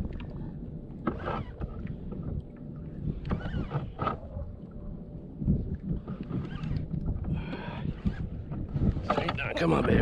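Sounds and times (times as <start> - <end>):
water lapping against kayak hull: 0.0 - 10.0
wind rumble on microphone: 0.0 - 10.0.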